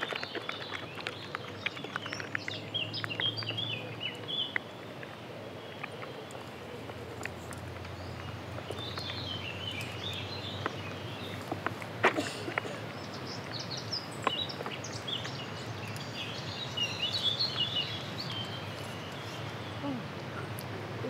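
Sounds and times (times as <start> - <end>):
birds singing and chirping: 0.0 - 21.0
low outdoor background: 0.0 - 21.0.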